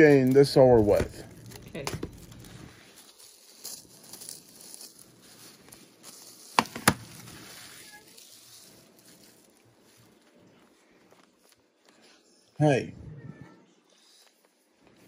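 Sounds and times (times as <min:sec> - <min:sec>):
plastic shrink-wrap crinkling: 0:00.0 - 0:12.6.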